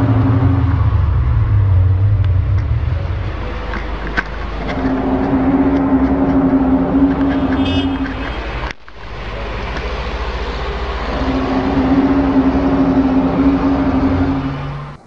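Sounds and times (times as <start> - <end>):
low horn-like drone: 0.0 - 15.0
low rumble: 0.0 - 15.0.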